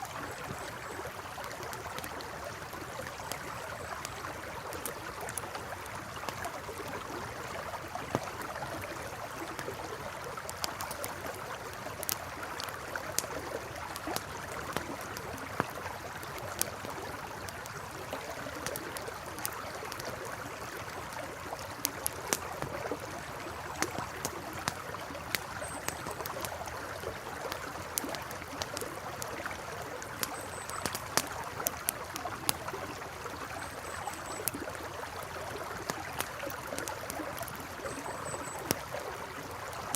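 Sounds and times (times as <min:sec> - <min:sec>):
campfire crackling: 0:00.0 - 0:39.9
river water flowing: 0:00.0 - 0:39.9.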